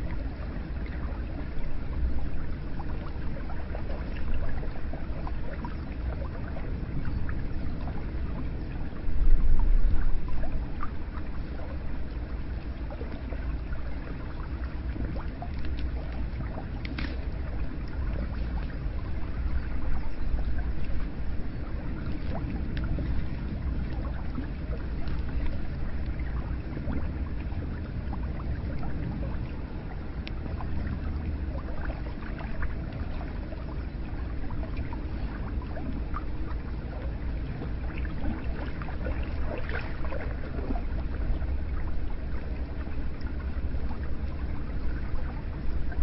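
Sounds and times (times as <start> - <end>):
water flowing and splashing: 0.0 - 46.0.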